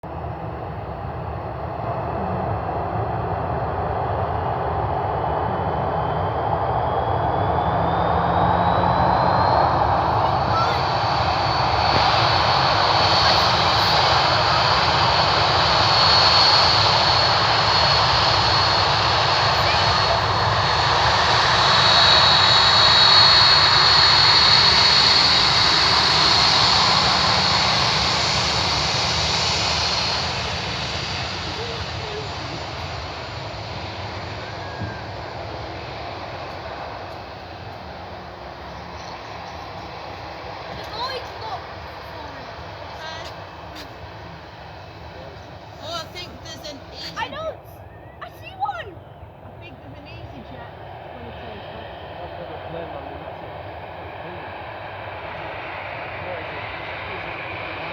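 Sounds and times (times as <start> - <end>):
jet engines roaring: 0.0 - 57.9.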